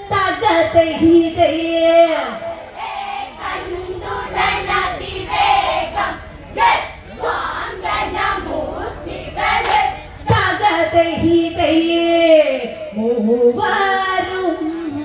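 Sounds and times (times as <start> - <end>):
women singing in chorus: 0.9 - 14.7.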